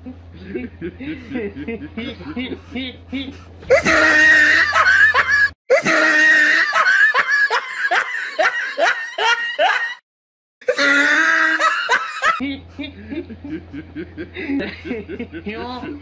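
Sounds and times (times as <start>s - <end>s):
elderly man laughing hard: 0.0s - 2.8s, 3.7s - 10.0s, 10.7s - 15.5s.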